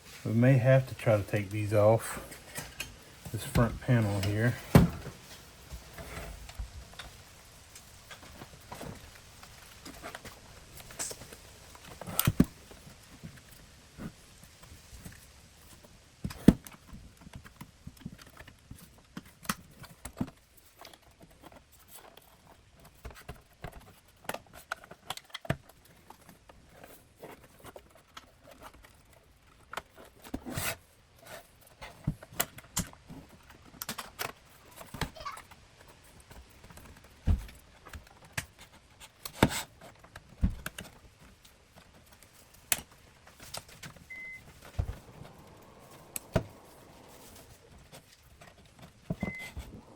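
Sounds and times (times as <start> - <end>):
hand tools and plastic parts clicking: 0.7 - 49.9.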